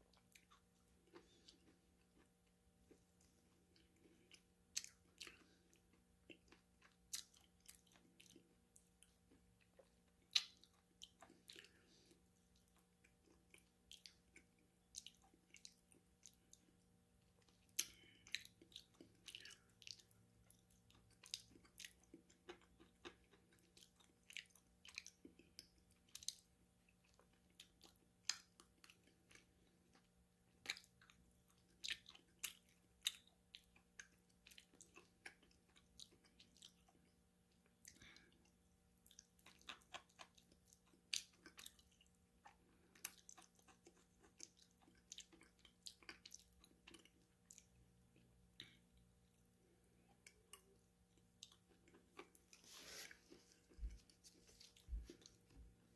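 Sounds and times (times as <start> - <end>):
chewing crunchy food: 0.0 - 55.9.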